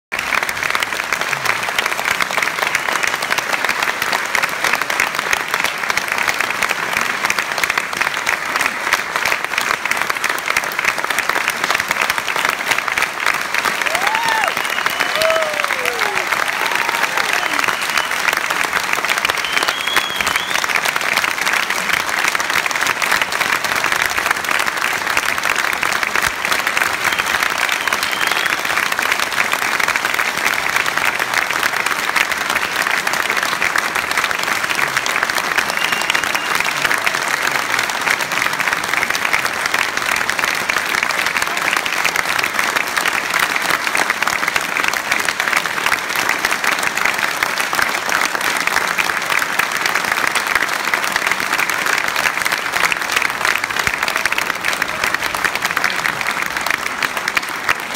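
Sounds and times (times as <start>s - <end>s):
audience applauding: 0.1s - 57.9s.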